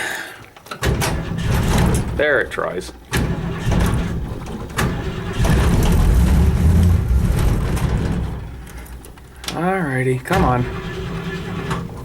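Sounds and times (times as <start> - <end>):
truck engine cranking and sputtering: 0.8 - 12.0.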